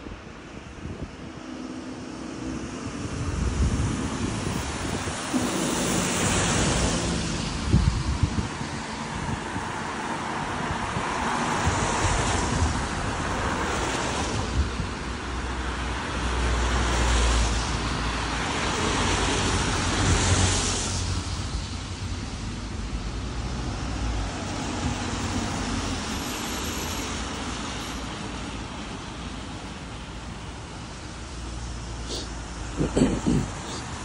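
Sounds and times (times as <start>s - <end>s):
steady low traffic rumble: 0.0s - 34.0s.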